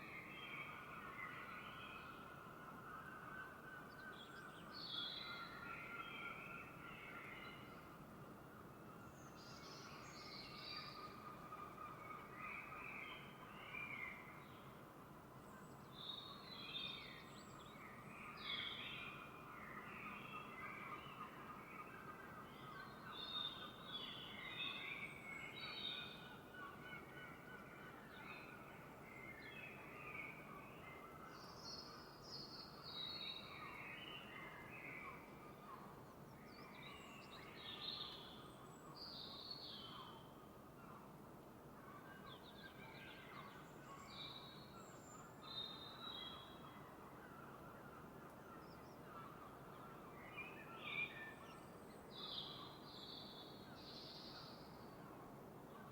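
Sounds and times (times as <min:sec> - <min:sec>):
low background hiss: 0:00.0 - 0:55.9.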